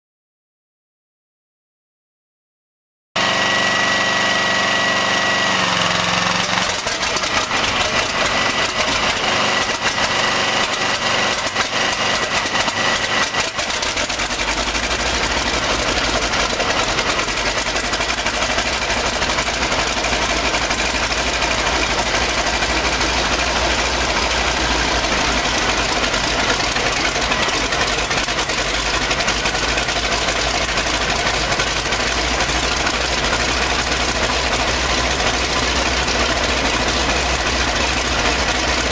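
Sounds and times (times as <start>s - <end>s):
piston engine starting and idling: 3.2s - 38.9s.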